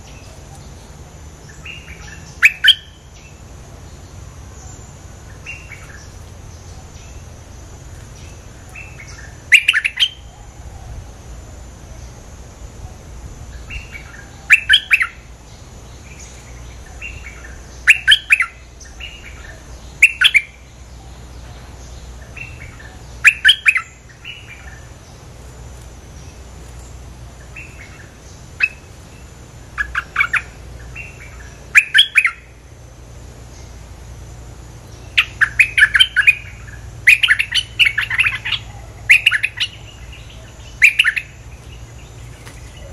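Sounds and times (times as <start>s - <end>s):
bulbul calling: 0.0s - 11.1s, 12.8s - 25.4s, 26.2s - 32.6s, 34.8s - 42.9s.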